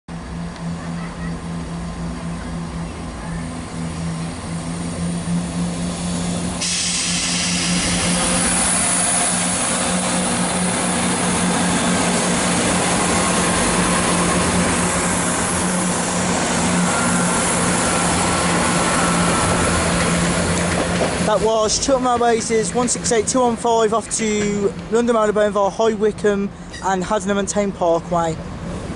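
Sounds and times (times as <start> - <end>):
diesel train engines droning: 0.1 - 28.9.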